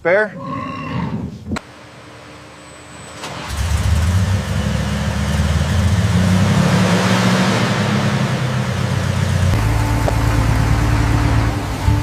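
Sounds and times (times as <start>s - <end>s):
van engine starting and running: 1.6s - 12.0s.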